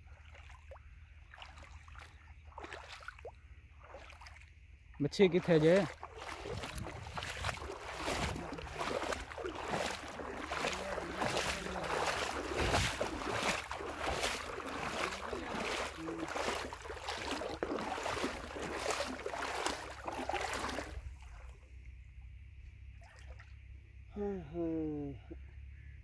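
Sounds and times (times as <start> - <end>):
legs wading through water: 0.0 - 21.8, 22.9 - 23.6.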